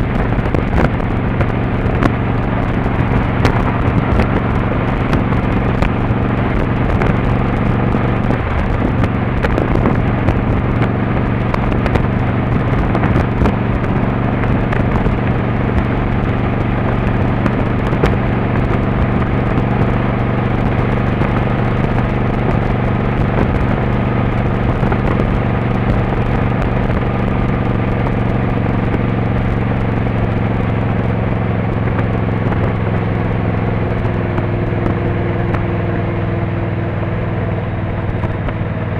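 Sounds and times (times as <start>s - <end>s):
motorcycle engine cruising: 0.0s - 38.9s
wind rumbling on microphone: 0.0s - 38.9s.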